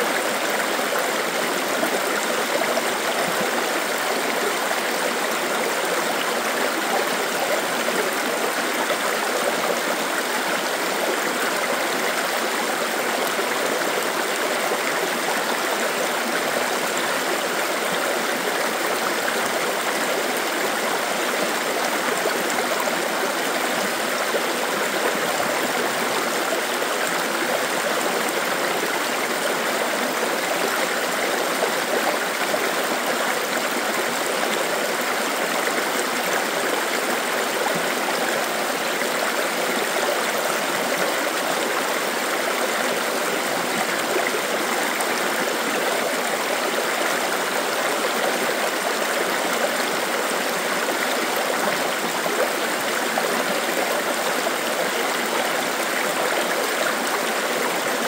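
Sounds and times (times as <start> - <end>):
river flowing over rocks: 0.0 - 58.0.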